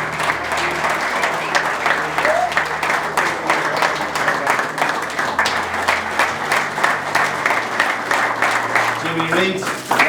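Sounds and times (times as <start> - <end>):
group applauding: 0.0 - 10.0.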